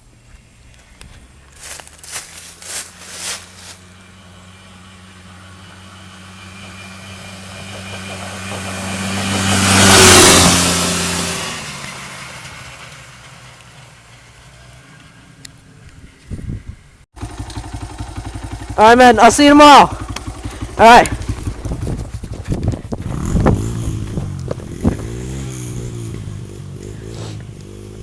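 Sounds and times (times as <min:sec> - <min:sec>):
vehicle engine passing by: 0:00.8 - 0:28.0.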